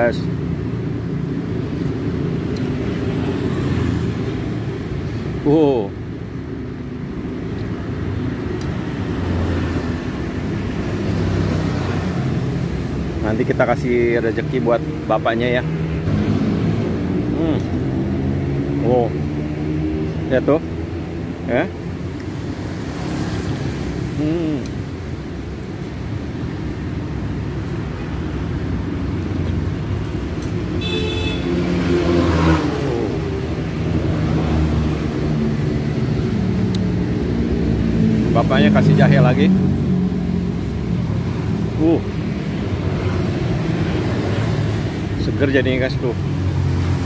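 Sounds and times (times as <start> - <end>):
street traffic passing: 0.0 - 47.0.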